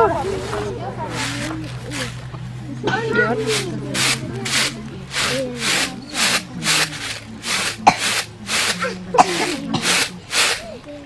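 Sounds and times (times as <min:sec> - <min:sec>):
rice swishing in woven tray: 0:00.0 - 0:02.3, 0:03.1 - 0:10.9.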